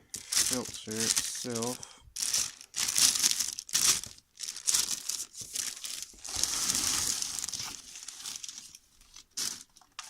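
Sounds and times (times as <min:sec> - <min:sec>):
packaging crinkling and rustling: 0:00.1 - 0:10.0.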